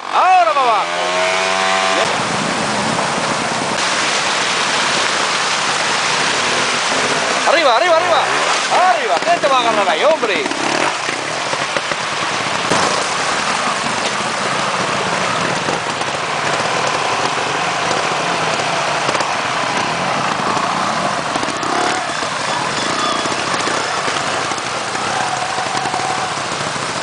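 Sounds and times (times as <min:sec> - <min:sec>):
motorcycle engines at low revs: 0:00.0 - 0:27.0.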